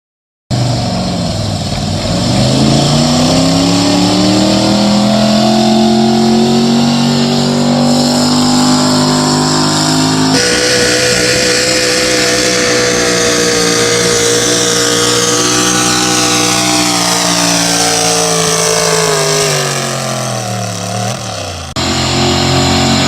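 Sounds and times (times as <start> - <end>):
truck engine running hard: 0.5 - 23.0.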